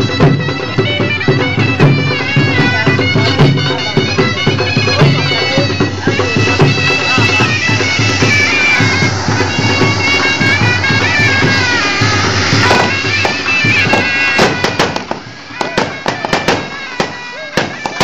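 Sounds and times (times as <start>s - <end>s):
reedy wind-instrument melody: 0.0s - 18.0s
steady drum beat: 0.0s - 18.0s.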